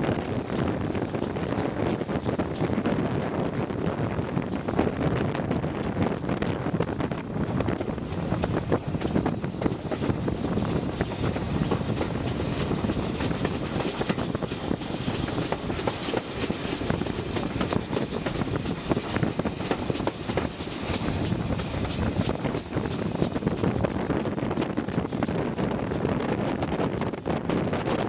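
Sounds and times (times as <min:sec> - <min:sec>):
moving train rumble: 0:00.0 - 0:28.0
wheels clicking over rails: 0:00.0 - 0:28.0
wind on microphone: 0:00.0 - 0:28.0.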